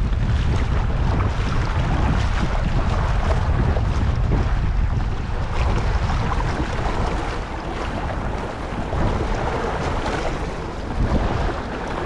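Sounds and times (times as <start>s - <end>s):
wind buffeting microphone: 0.0s - 12.0s
seawater splashing against rocks: 0.1s - 12.0s.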